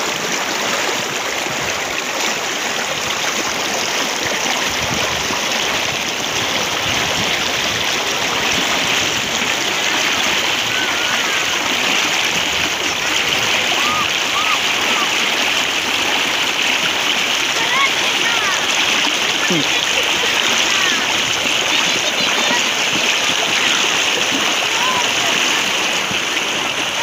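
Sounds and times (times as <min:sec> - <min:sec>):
floodwater rushing and splashing: 0:00.0 - 0:27.0.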